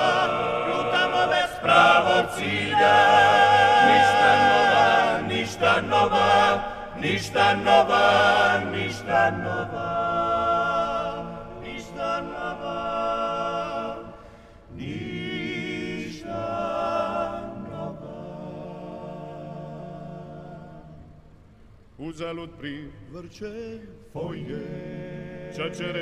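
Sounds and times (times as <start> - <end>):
a cappella group singing harmony: 0.0 - 26.0.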